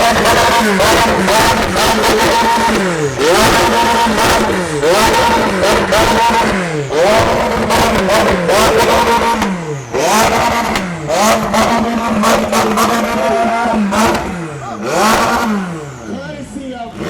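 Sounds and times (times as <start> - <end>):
car engine revving hard: 0.0 - 17.0.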